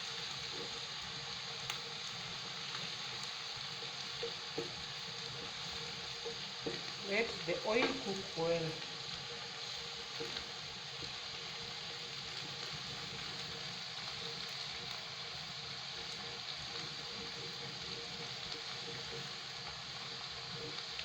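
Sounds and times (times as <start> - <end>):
oil sizzling in pot: 0.0 - 21.0.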